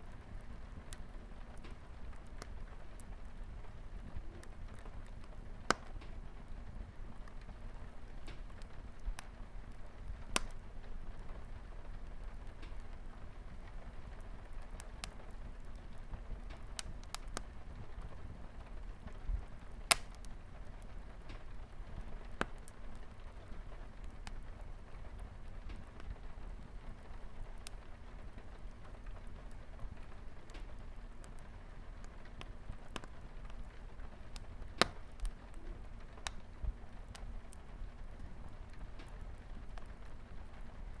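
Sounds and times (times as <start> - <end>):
light rain on a window: 0.0 - 41.0
wood fire crackling and popping: 0.0 - 41.0.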